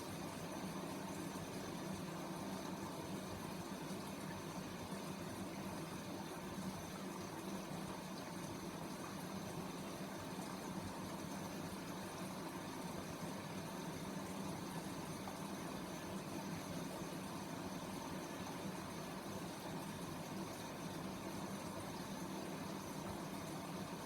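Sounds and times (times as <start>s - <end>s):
washing machine hum: 0.0s - 24.0s.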